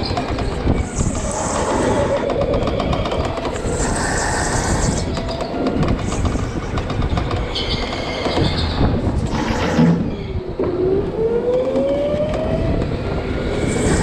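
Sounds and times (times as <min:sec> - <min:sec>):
go-kart tyres rumbling: 0:00.0 - 0:14.0.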